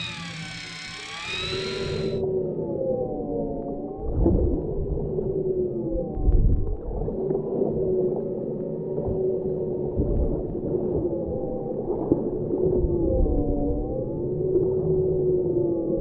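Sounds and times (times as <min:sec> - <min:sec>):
wavering low humming tones: 0:00.0 - 0:16.0.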